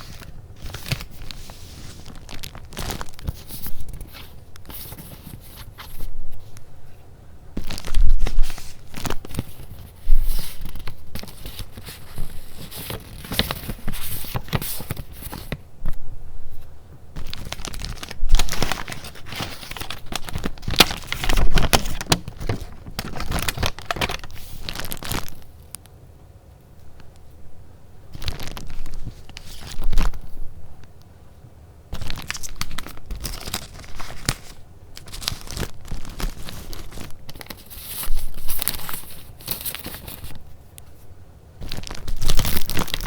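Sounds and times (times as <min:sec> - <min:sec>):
sharp paper crackles: 0:00.0 - 0:06.5, 0:07.6 - 0:16.0, 0:17.2 - 0:25.6, 0:28.1 - 0:30.4, 0:32.0 - 0:41.0, 0:41.6 - 0:43.0
paper rustling and crinkling: 0:00.0 - 0:06.6, 0:07.6 - 0:25.6, 0:28.1 - 0:30.4, 0:32.0 - 0:43.0.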